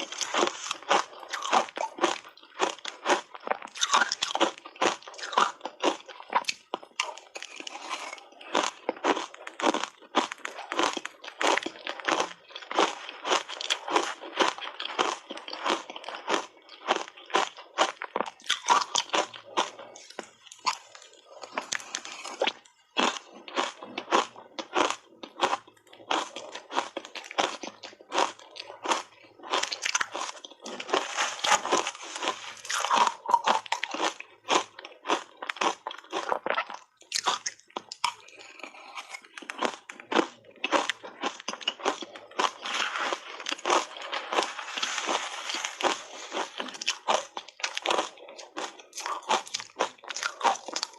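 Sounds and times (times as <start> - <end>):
person crunching shaved ice: 0.0 - 50.9.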